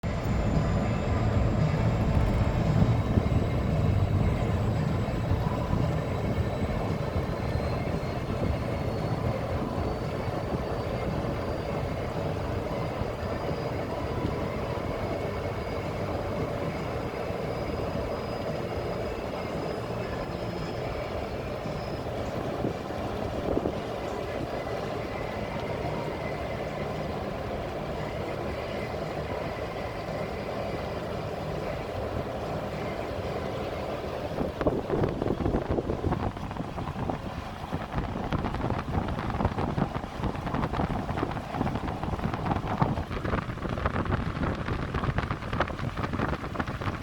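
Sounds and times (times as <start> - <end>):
faint high whine: 0.0 - 47.0
low engine drone: 0.0 - 47.0.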